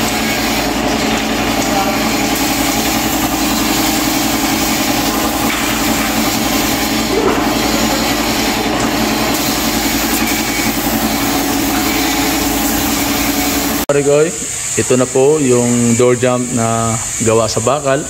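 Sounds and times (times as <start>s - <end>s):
air compressor running: 0.0s - 18.0s
spray gun hissing: 0.0s - 18.0s.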